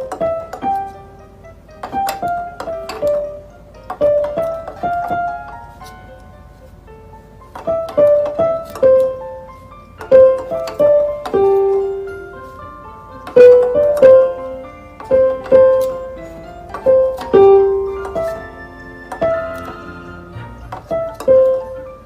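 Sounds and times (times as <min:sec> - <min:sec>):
slow piano melody: 0:00.0 - 0:22.0.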